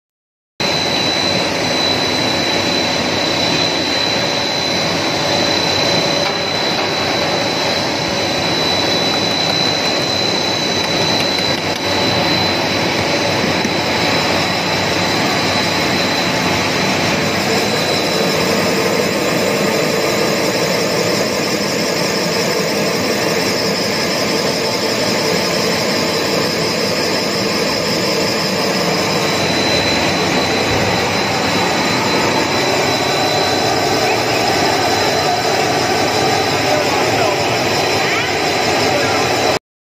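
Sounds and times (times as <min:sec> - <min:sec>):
high steady whine: 0:00.6 - 0:39.6.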